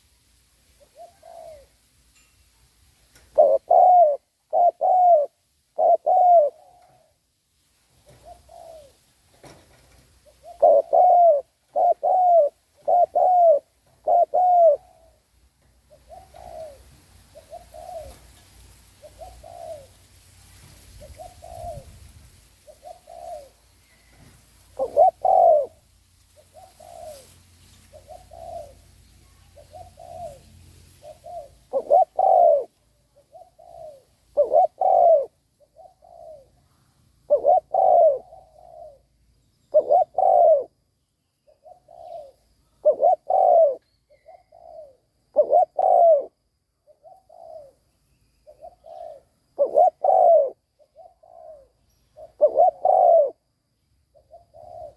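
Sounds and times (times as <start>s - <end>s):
dove cooing: 0.8s - 1.8s, 3.2s - 7.2s, 8.0s - 18.4s, 19.0s - 20.0s, 20.9s - 40.8s, 41.4s - 47.8s, 48.4s - 54.9s.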